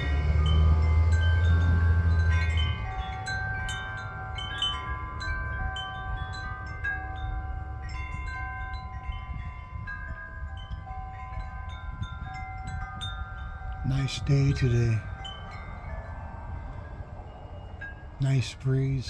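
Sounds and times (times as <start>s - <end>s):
low wind rumble: 0.0s - 19.0s
metal wind chimes ringing: 0.0s - 19.0s.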